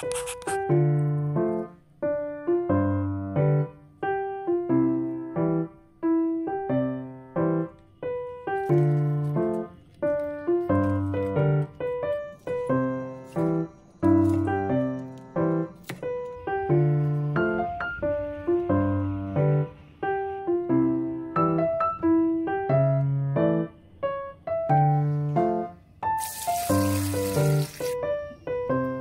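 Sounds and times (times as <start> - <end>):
slow piano melody: 0.0 - 29.0.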